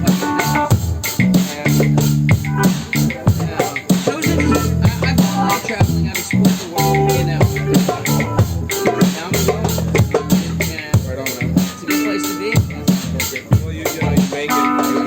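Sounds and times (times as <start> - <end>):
drum kit steady beat: 0.0 - 15.0
live band jamming: 0.0 - 15.0.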